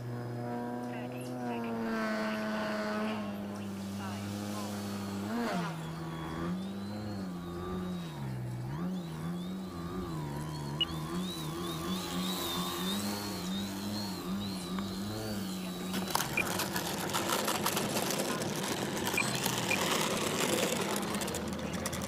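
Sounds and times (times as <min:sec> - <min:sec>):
model plane motor buzzing: 0:00.0 - 0:22.0.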